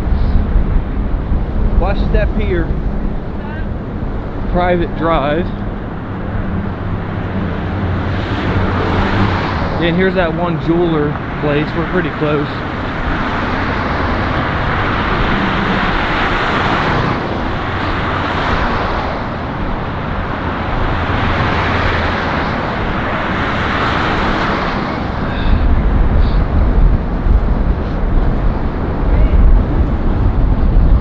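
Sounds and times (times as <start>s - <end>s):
cars swishing by: 0.0s - 31.0s
wind buffeting microphone: 0.0s - 31.0s.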